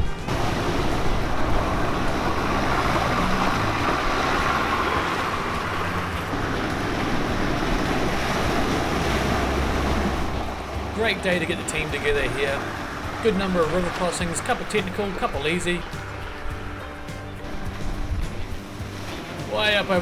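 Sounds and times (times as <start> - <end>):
vehicle engine running low: 0.0 - 20.0
water rushing and splashing: 0.0 - 20.0.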